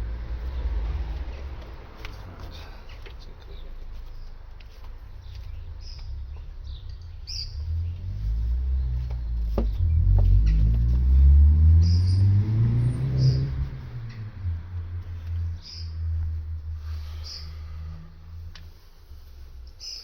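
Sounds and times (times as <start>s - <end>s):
vehicle engine passing: 0.0s - 19.6s
birds chirping: 0.4s - 20.0s.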